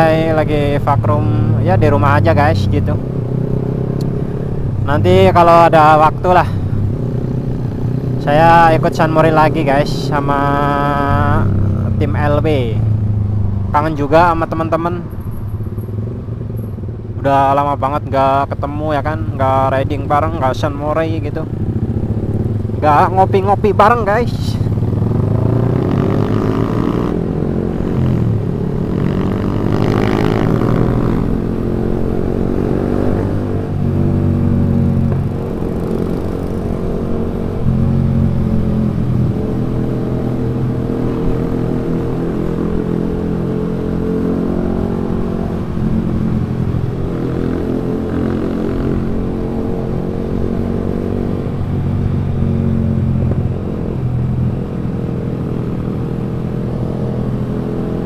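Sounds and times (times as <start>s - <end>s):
motorcycle engine revving: 0.1s - 14.6s, 19.5s - 58.0s.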